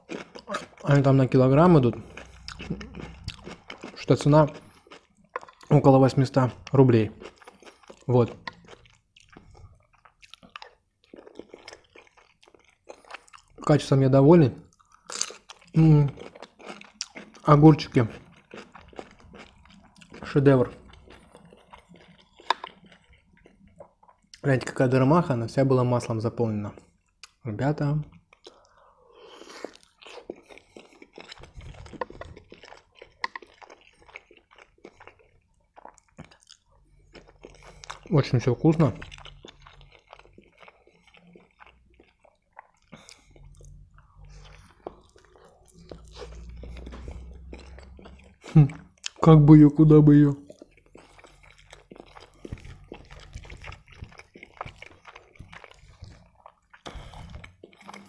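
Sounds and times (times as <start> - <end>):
close-up chewing with crunches: 0.0 - 14.0, 14.6 - 24.8, 28.0 - 58.0.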